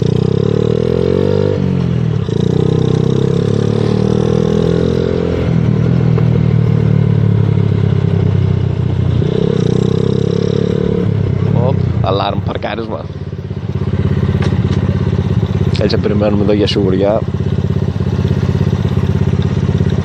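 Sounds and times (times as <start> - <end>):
small motorcycle engine revving: 0.0 - 11.9, 13.0 - 20.0.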